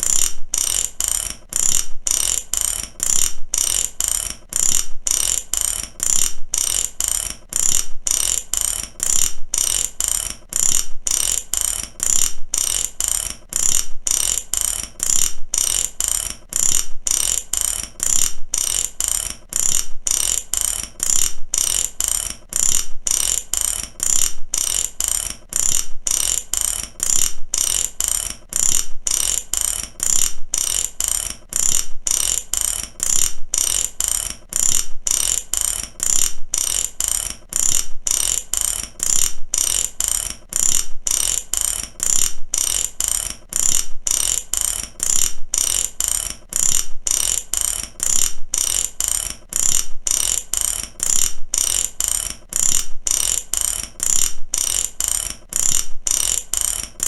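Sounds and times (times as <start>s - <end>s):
ratchet wrench clicking: 0.0s - 57.0s.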